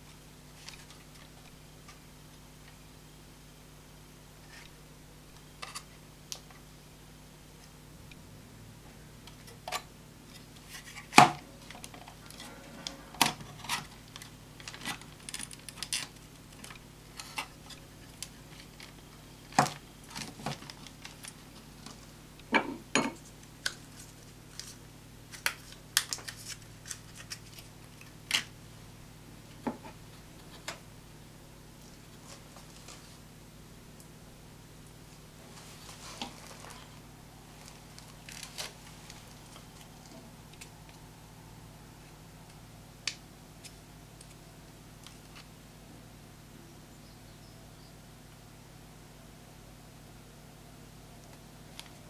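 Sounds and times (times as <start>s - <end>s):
faint steady low hum: 0.0s - 52.0s.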